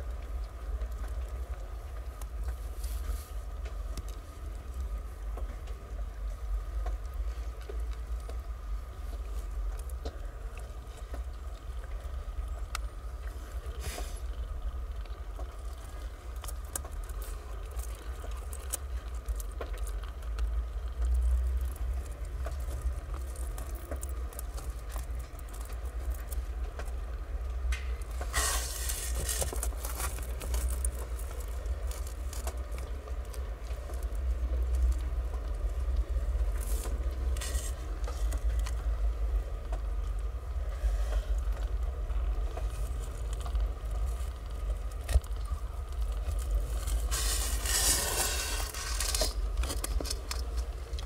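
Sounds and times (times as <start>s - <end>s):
kittens suckling and rustling: 0.0s - 51.0s.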